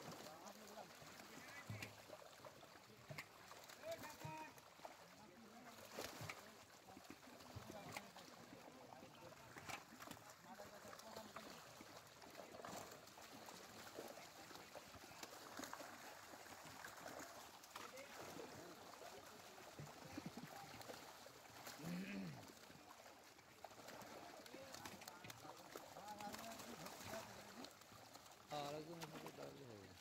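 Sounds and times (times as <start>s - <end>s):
fish splashing in water: 0.0s - 30.0s.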